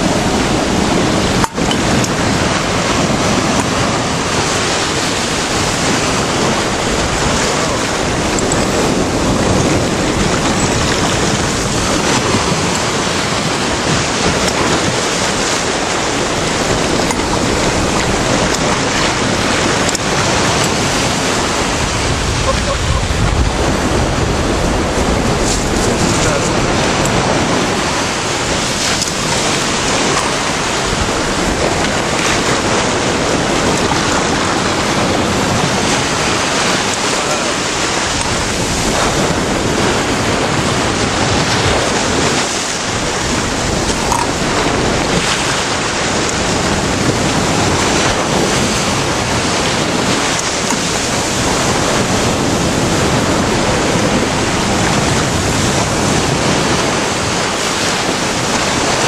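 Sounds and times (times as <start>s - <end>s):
sea surf breaking: 0.0s - 59.0s
wind buffeting microphone: 0.0s - 59.0s.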